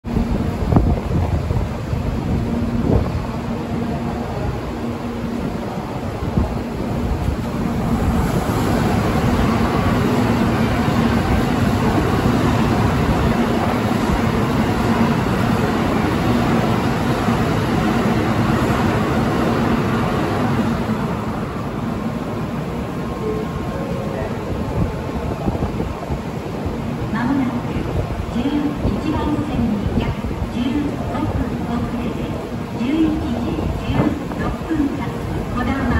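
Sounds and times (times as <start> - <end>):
high-speed train passing: 0.0 - 35.9.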